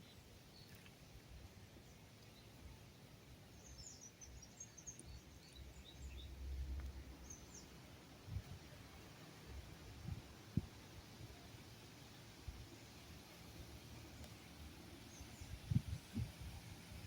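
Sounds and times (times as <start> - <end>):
small birds chirping: 0.0 - 9.2, 11.3 - 17.0.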